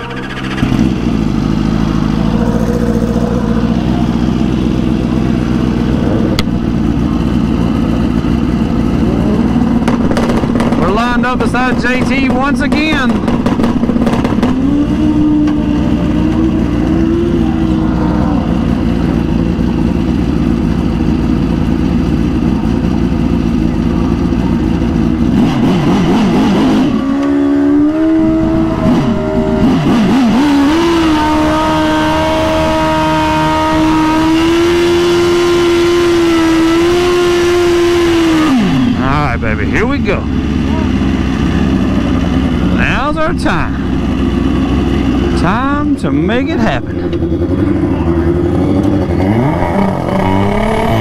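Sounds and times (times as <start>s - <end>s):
motorcycle engines at high revs: 0.0s - 51.0s.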